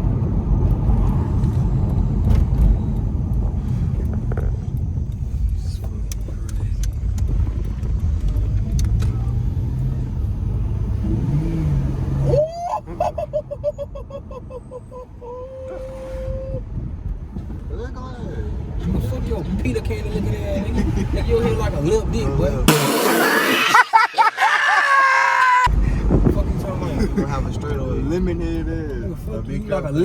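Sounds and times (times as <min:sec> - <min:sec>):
road and wind rumble: 0:00.0 - 0:22.7, 0:25.6 - 0:30.0.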